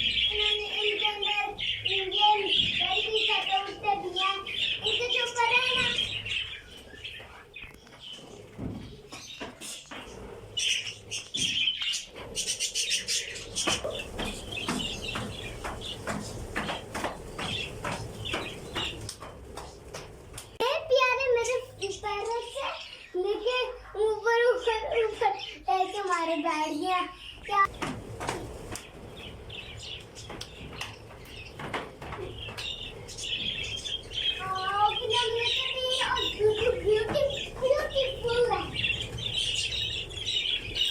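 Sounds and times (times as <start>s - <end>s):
parrots chirping and chattering: 0.0s - 40.9s.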